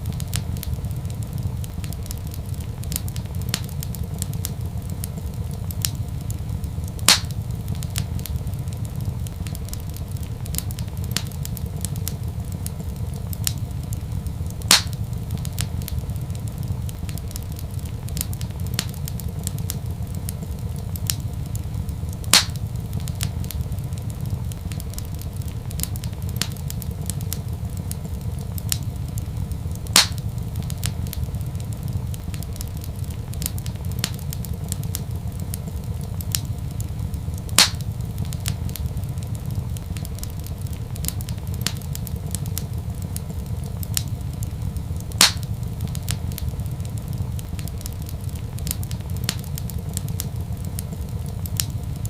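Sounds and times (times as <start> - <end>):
loud sharp fire pops: 0.0 - 52.0
wood fire crackling: 0.0 - 52.0.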